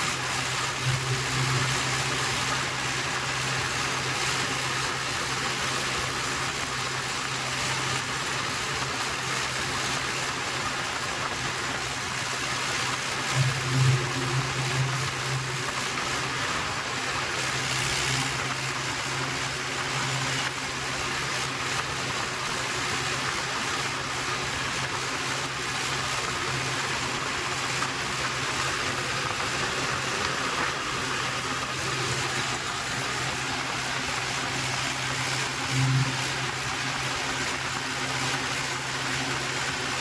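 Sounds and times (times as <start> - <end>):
low hum: 0.0 - 7.0, 11.4 - 22.2, 24.6 - 39.8
constant hiss: 0.0 - 40.0
tractor engine running: 0.0 - 40.0.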